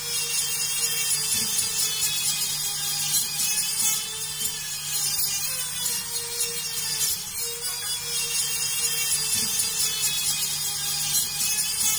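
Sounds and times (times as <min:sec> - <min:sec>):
electric drill motor hum: 0:00.0 - 0:11.9.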